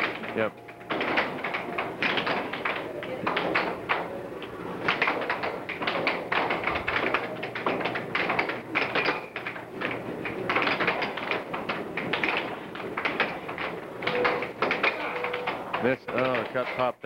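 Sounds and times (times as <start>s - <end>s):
air hockey puck clacking: 0.0s - 16.6s.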